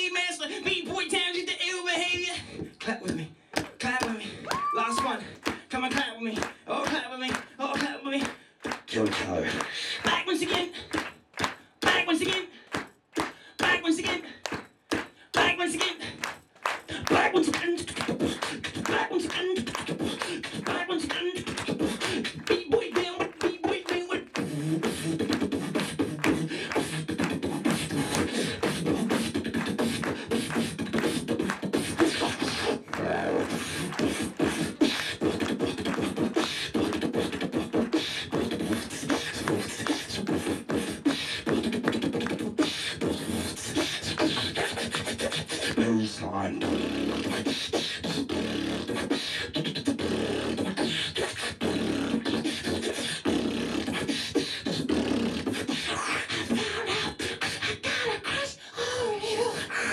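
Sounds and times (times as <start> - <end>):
beatboxing into a microphone: 0.0 - 59.9.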